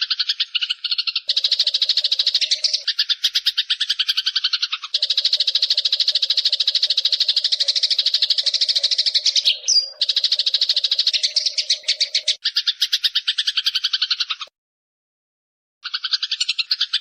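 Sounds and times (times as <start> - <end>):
sparrow chattering trill: 0.0 - 14.5, 15.8 - 17.0.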